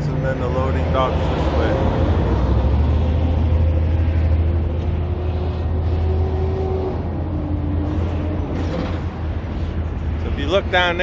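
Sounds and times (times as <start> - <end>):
engine hum: 0.0 - 11.0
rumble of passing vehicles: 0.0 - 11.0.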